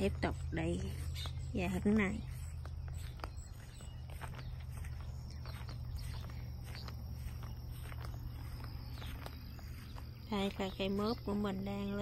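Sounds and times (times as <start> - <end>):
footsteps through grass: 0.0 - 12.0
steady low rumble: 0.0 - 12.0.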